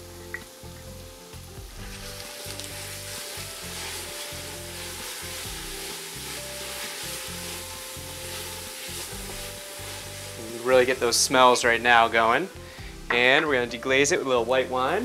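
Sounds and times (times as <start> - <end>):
vegetables sizzling in a pan: 0.0 - 15.0.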